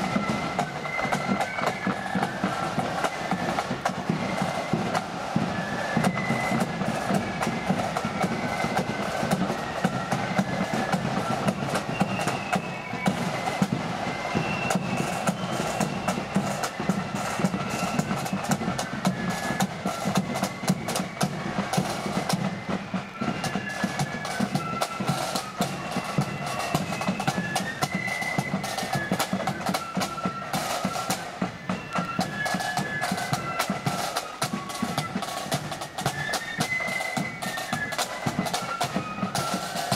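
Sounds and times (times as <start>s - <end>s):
fast snare drumming: 0.0s - 39.9s
flute melody: 0.0s - 39.9s.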